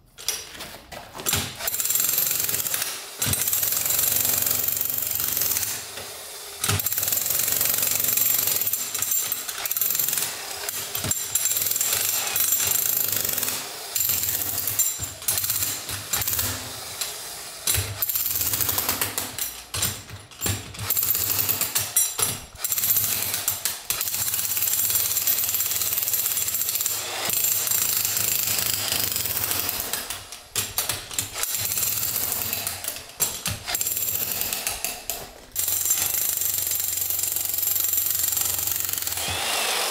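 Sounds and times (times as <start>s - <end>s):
demolition hammer chiselling stone: 1.2s - 39.9s.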